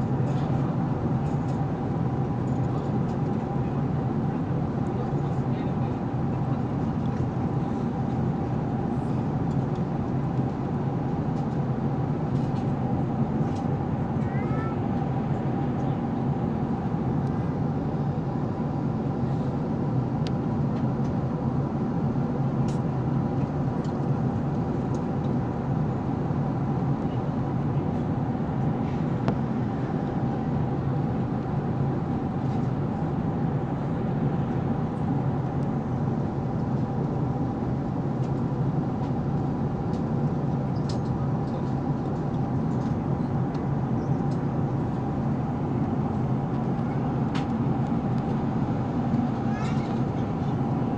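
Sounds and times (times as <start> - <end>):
faint steady whines: 0.0 - 50.9
hum of jet engines: 0.0 - 50.9.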